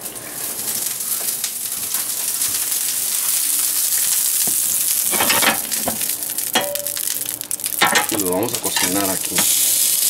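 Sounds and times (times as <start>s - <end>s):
hot oil sizzling in a pan: 0.0s - 10.0s
small oil crackles: 0.0s - 10.0s.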